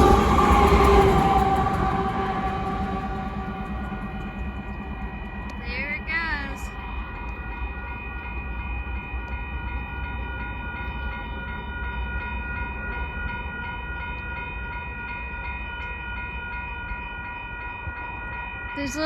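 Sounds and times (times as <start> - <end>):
crossing signal ringing: 0.0 - 19.0
train rumbling past: 0.0 - 19.0.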